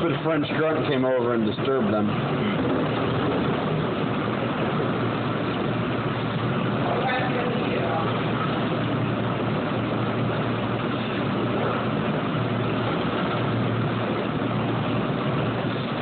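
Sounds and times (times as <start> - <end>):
machine rushing hum: 0.0 - 16.0.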